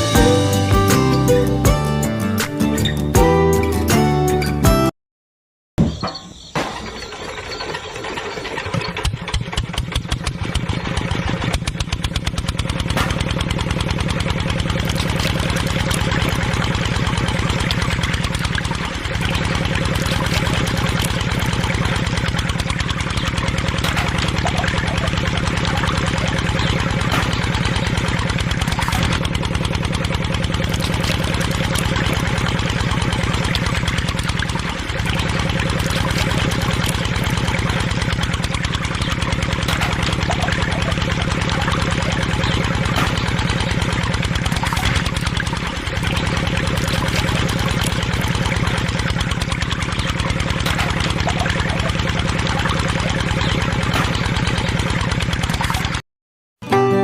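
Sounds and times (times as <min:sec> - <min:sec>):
motor running with fast pulse: 0:06.9 - 0:56.0.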